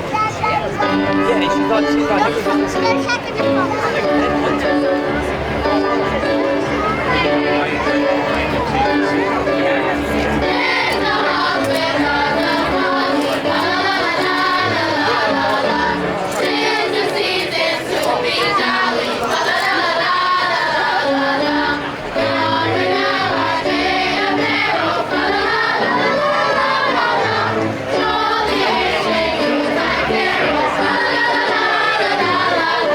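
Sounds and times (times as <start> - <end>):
choir singing with accompaniment: 4.0 - 32.9.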